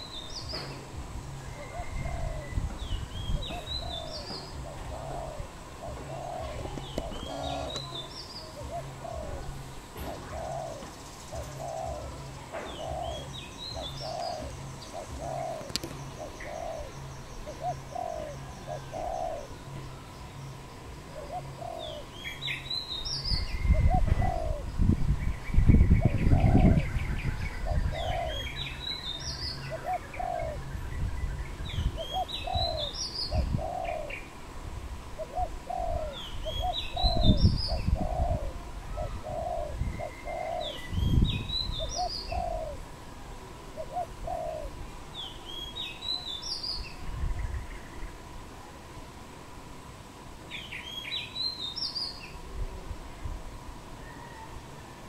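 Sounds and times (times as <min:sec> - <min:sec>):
doves cooing: 0:00.0 - 0:24.8, 0:25.8 - 0:30.9, 0:31.9 - 0:45.6, 0:53.8 - 0:55.0
small birds chirping: 0:00.0 - 0:34.4, 0:35.2 - 0:48.9.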